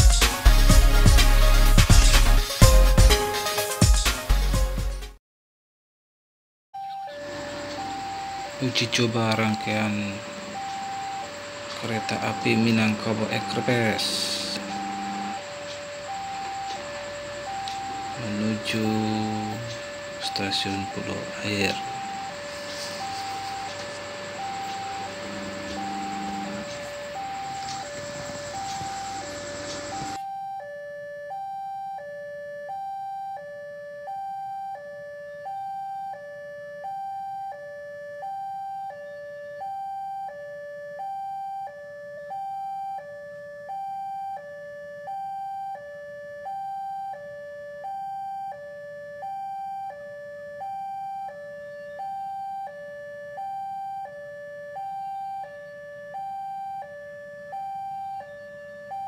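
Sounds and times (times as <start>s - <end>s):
level crossing two-tone alarm: 0.0s - 4.5s, 6.8s - 59.0s.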